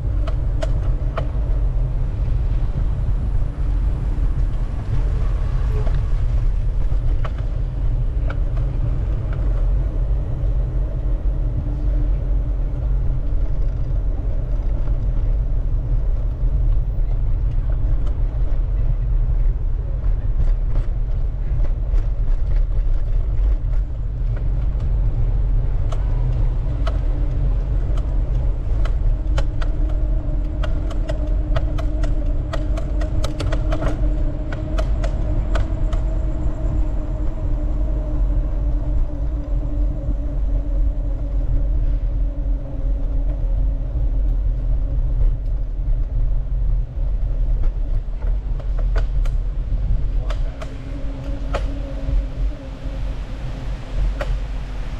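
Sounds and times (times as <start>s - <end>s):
bicycle ticks and rattles: 0.0s - 53.0s, 53.9s - 54.9s
faint hum: 0.0s - 54.9s
wind rumbling on microphone: 0.0s - 54.9s.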